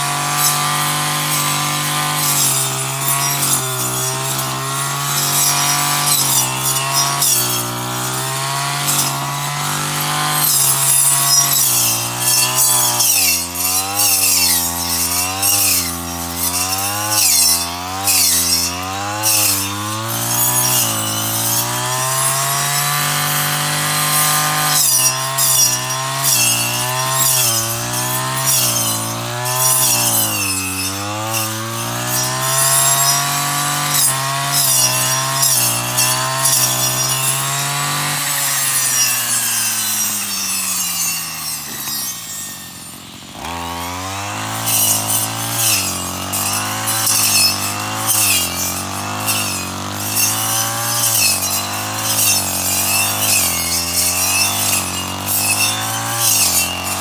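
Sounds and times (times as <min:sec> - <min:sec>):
brush cutter engine running: 0:00.0 - 0:57.0.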